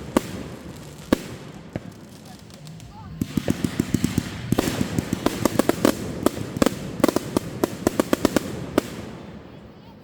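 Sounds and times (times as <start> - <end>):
fireworks cracking and popping: 0.0 - 9.6
fireworks crackle: 0.0 - 9.9.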